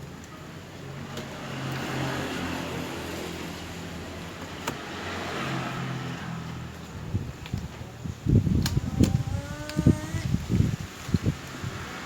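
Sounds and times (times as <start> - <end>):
vehicle engine passing by: 0.9 - 8.2, 9.4 - 12.0.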